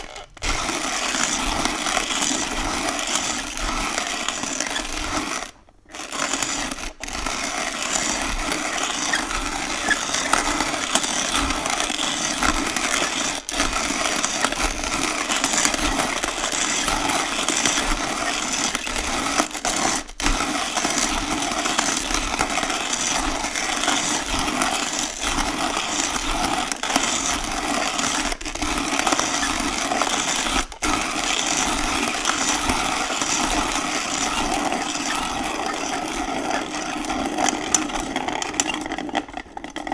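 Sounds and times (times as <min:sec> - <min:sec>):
hand coffee grinder grinding: 0:00.0 - 0:39.9.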